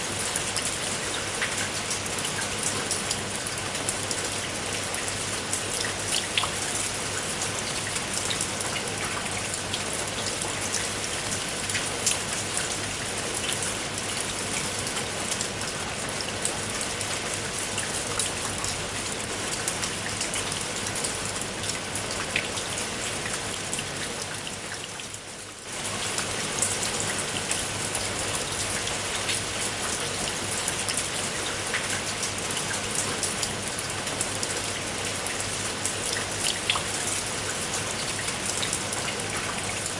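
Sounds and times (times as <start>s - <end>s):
rain falling: 0.0s - 39.9s
raindrops ticking on a surface: 0.0s - 39.9s.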